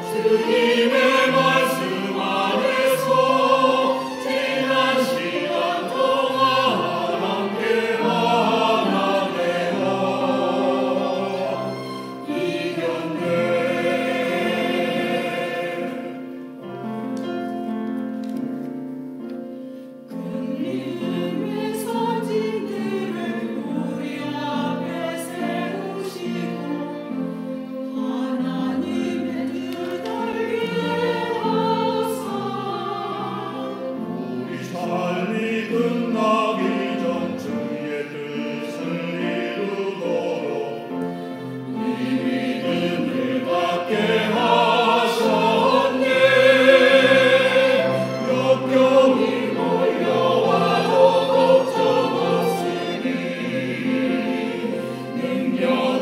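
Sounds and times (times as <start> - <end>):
choir singing an anthem: 0.0 - 16.7, 20.1 - 56.0
piano accompaniment: 0.0 - 56.0.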